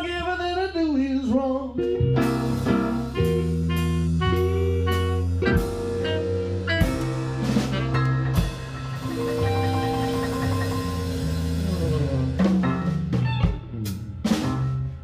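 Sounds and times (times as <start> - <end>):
blues band playing: 0.0 - 15.0
drums: 0.0 - 15.0.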